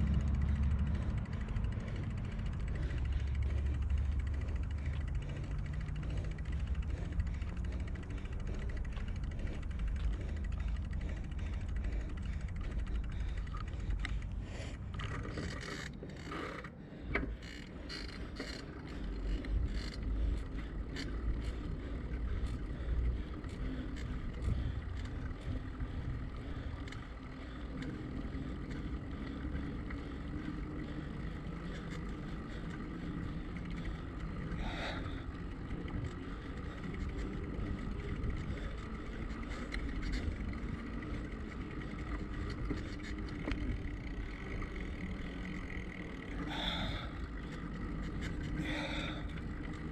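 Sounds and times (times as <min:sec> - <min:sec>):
bicycle tyres rolling: 0:00.0 - 0:49.9
bike mechanism ticking and rattling: 0:00.0 - 0:49.9.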